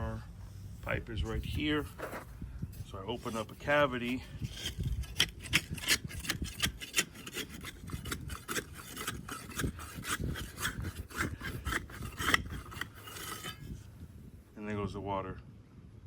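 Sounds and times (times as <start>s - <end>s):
digging and scraping ground: 0.0s - 14.1s.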